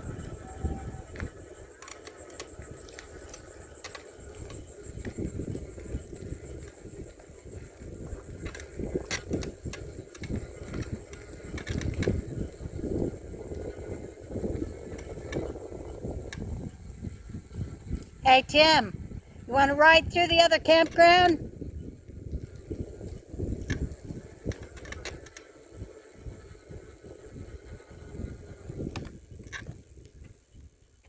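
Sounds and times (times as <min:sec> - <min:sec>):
bicycle clicks and rattles: 0:00.0 - 0:18.2, 0:20.7 - 0:31.0
wind buffeting microphone: 0:00.0 - 0:31.0.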